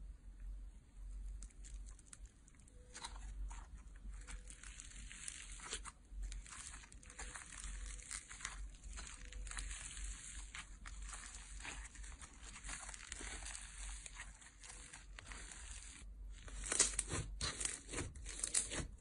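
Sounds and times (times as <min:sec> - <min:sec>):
slime crackling and popping: 0:01.3 - 0:19.0.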